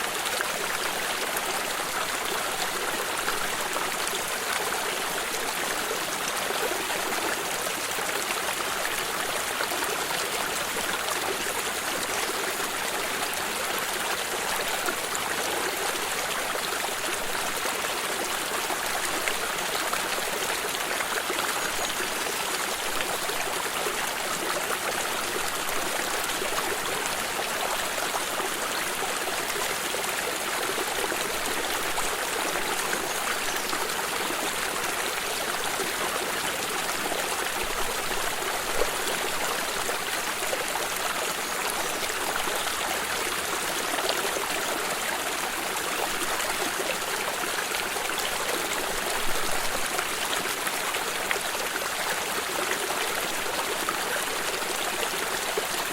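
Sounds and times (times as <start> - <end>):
stream babbling over stones: 0.0 - 55.9.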